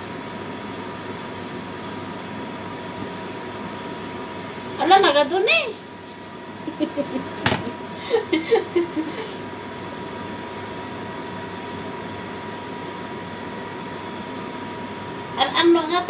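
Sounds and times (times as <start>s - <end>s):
fan-like machine hum: 0.0s - 16.0s.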